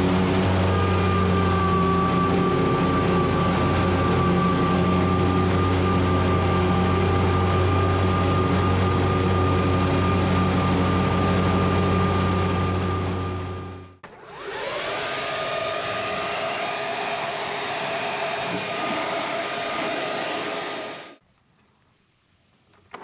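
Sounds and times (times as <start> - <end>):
high whine: 0.0 - 21.2
mower engine humming: 0.0 - 21.2.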